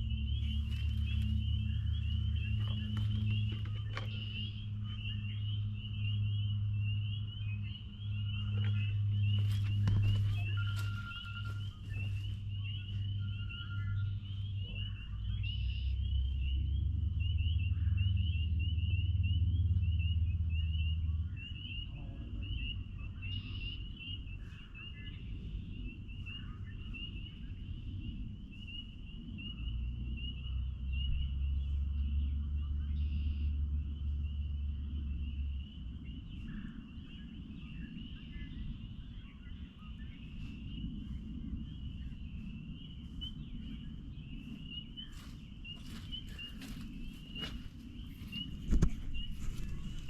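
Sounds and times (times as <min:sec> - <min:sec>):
low steady hum: 0:00.0 - 0:50.0
spring peepers chorus: 0:00.0 - 0:50.0.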